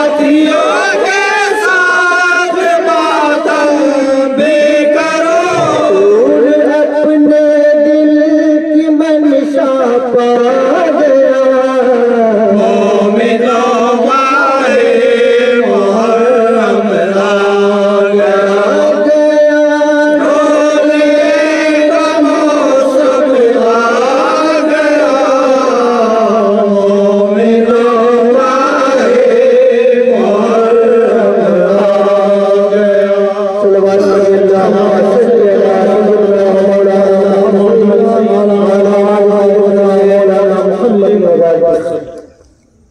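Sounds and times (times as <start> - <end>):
men chanting a lament: 0.0 - 42.3.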